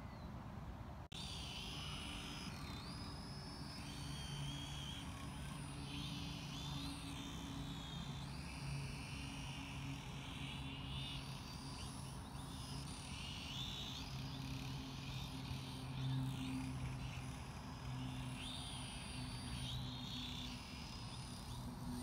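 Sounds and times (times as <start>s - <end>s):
drone motors buzzing: 1.1s - 22.0s.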